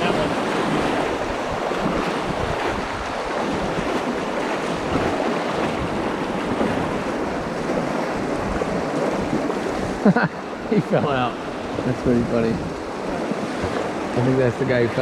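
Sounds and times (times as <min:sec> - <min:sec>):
wind noise on microphone: 0:00.0 - 0:10.0, 0:11.5 - 0:14.2
river current rushing: 0:00.0 - 0:15.0.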